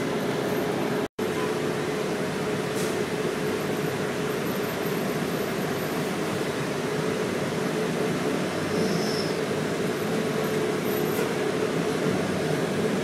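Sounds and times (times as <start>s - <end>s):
bus engine: 0.0s - 13.0s
road noise: 0.0s - 13.0s.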